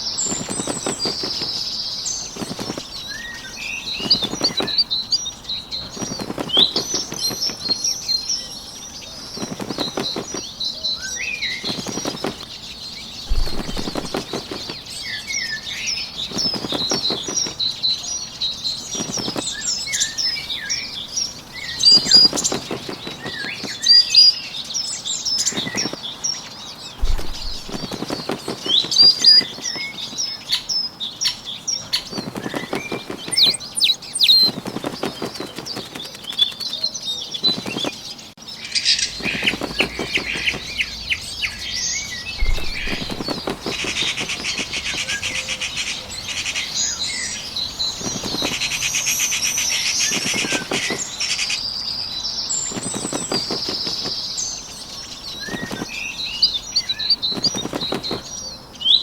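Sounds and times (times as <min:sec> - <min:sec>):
wing flaps fluttering: 0:00.0 - 0:17.9, 0:18.6 - 0:24.4, 0:25.3 - 0:30.8, 0:31.8 - 0:38.2, 0:38.8 - 0:51.6, 0:52.5 - 0:58.4
small birds chirping: 0:00.0 - 0:59.0.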